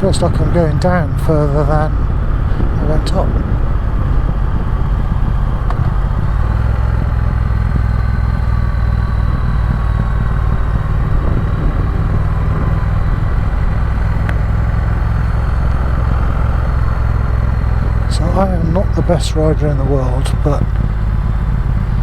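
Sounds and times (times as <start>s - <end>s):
motorcycle engine running: 0.0s - 22.0s
wind rumble on microphone: 0.0s - 22.0s.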